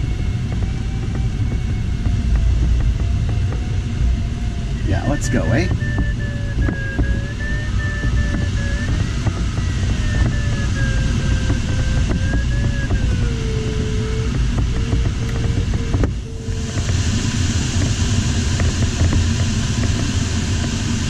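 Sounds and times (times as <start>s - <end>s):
cockpit airflow noise: 0.0s - 21.0s
wavering variometer tone: 0.0s - 21.0s.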